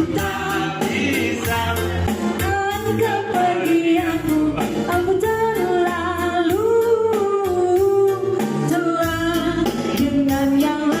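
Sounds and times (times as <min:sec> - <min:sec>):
steady beat: 0:00.0 - 0:11.0.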